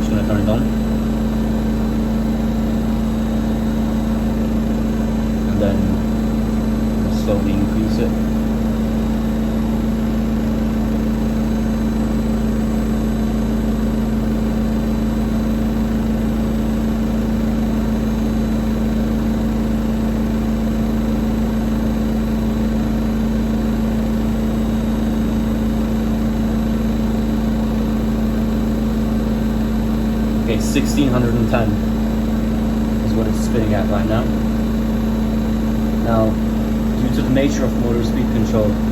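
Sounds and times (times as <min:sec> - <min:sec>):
washing machine spinning hum: 0:00.0 - 0:38.9.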